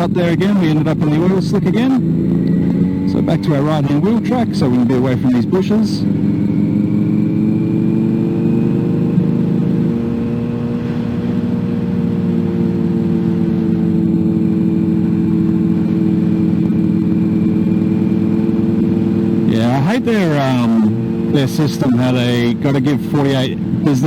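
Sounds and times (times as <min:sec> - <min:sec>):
car engine hum from cabin: 0:00.0 - 0:24.0.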